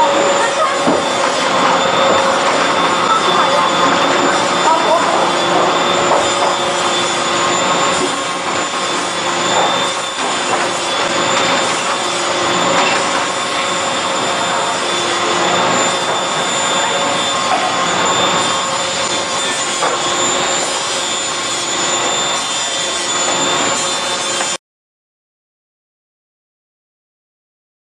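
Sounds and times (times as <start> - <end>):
constant machine whine: 0.0 - 24.6
gluing machine rumble: 0.0 - 24.6.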